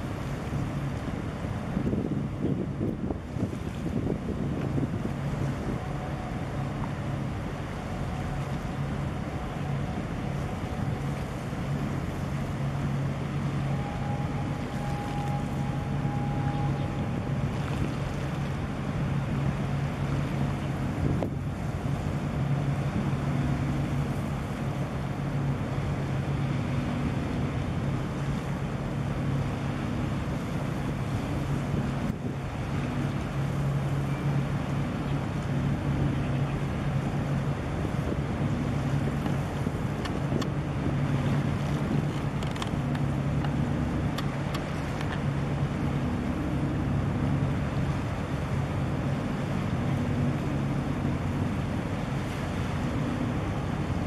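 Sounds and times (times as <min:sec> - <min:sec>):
ship engines droning: 0:00.0 - 0:54.0
water noise: 0:00.0 - 0:54.0
wind: 0:00.0 - 0:54.0.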